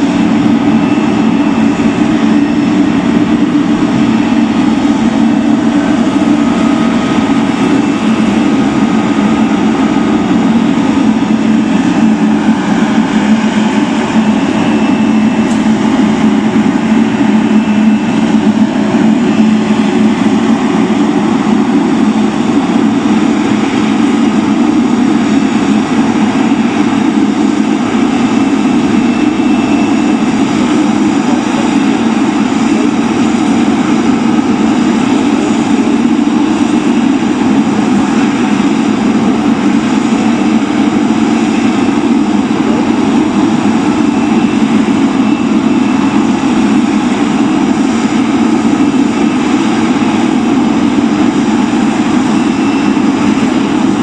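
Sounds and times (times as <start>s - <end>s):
faint high whining tones: 0.0s - 54.0s
jet engines rushing hum: 0.0s - 54.0s.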